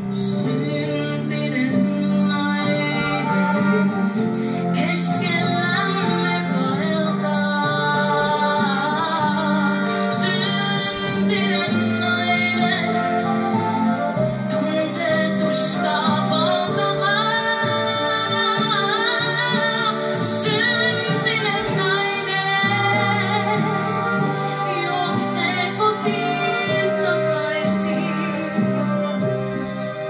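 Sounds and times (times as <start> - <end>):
instrumental accompaniment: 0.0 - 30.0
woman singing into a microphone: 0.0 - 30.0.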